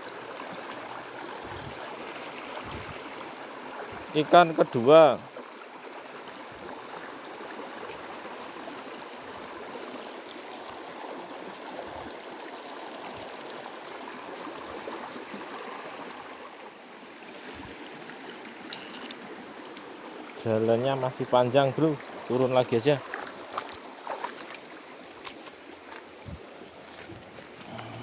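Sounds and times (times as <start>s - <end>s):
creek water burbling: 0.0s - 28.0s.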